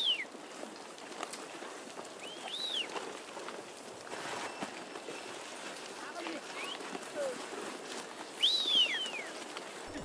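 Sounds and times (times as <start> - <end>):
hooves shuffling on stones: 0.0 - 10.0.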